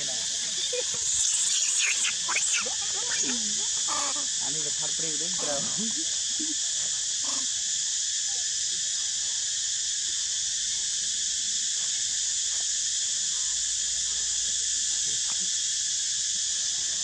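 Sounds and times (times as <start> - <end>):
insects chirping chorus: 0.0 - 17.0.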